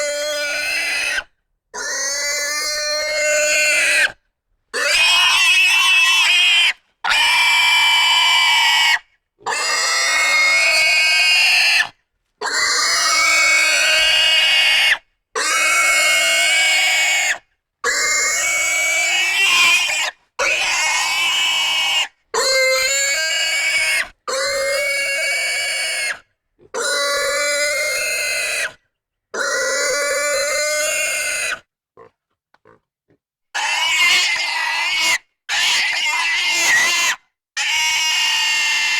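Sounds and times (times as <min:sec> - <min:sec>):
pig squealing: 0:00.0 - 0:04.2, 0:04.8 - 0:28.8, 0:29.4 - 0:31.7, 0:33.6 - 0:38.9.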